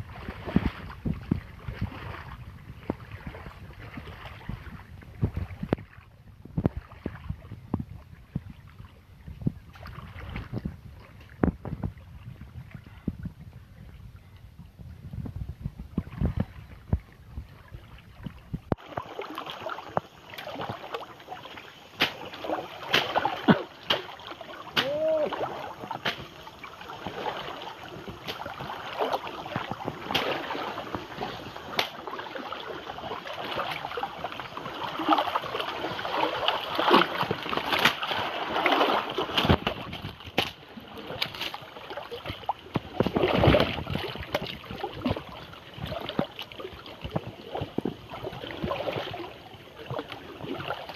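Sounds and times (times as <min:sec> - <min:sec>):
people wading splashing water: 0:00.0 - 0:14.5, 0:15.4 - 0:50.9.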